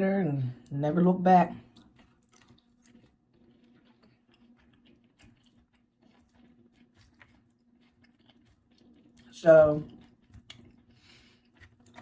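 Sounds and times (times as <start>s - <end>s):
person chewing: 1.4s - 12.0s.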